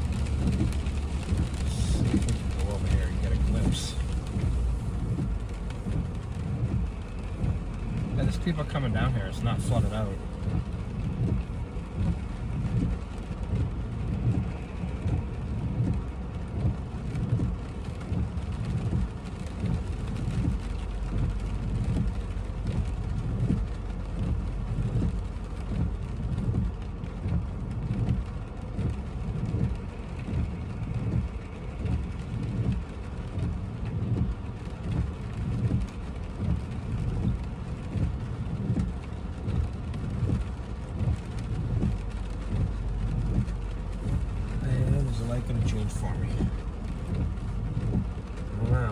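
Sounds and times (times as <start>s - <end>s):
rain on a car roof from inside: 0.0s - 48.9s.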